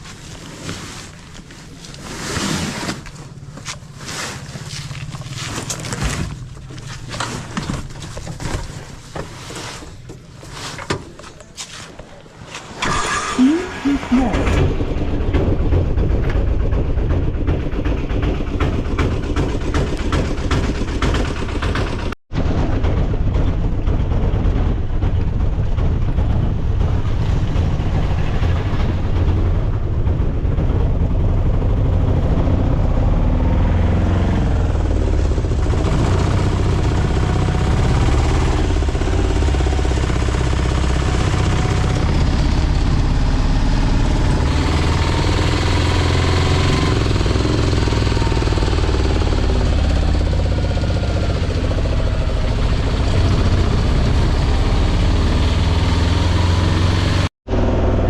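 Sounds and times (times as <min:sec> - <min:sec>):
road noise: 0:00.0 - 0:58.0
vehicle engine running: 0:02.9 - 0:10.7, 0:12.2 - 0:58.0.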